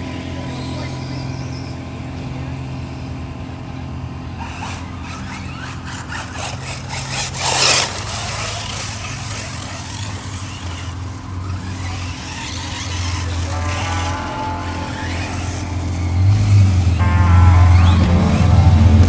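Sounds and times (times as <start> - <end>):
rc buggy motor whine: 0.0 - 19.0
steady low hum: 1.5 - 19.0.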